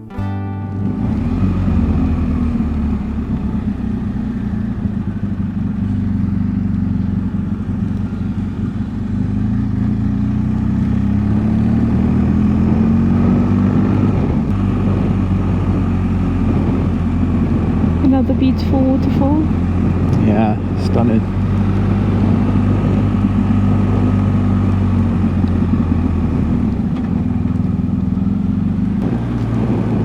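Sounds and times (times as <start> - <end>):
motorcycle engine running: 0.7 - 30.0.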